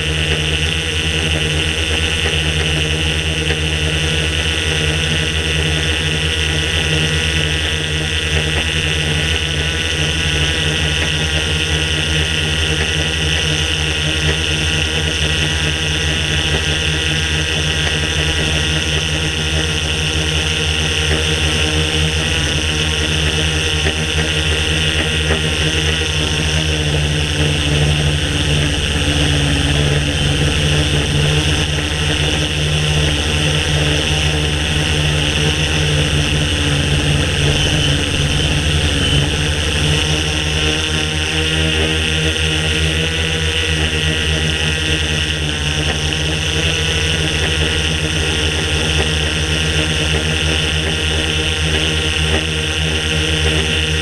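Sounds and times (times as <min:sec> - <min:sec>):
drone motors and propellers buzzing: 0:00.0 - 0:54.0.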